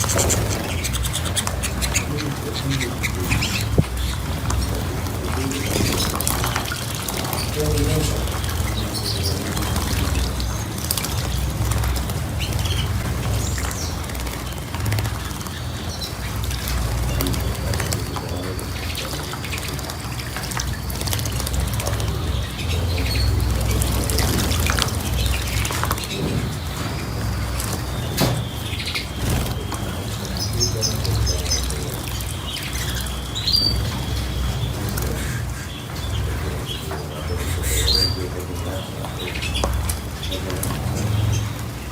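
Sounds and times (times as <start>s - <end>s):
small birds chirping: 0.0s - 41.9s
water splashing: 0.0s - 41.9s.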